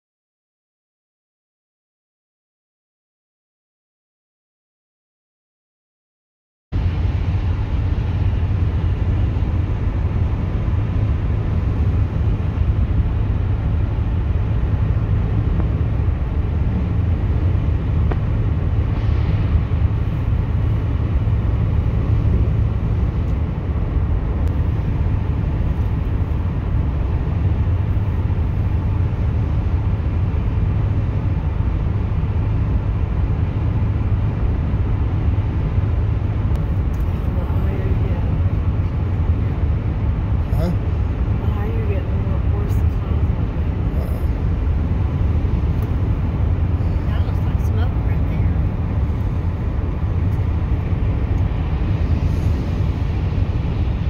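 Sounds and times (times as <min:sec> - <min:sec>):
tyre and road noise: 0:06.8 - 0:54.0.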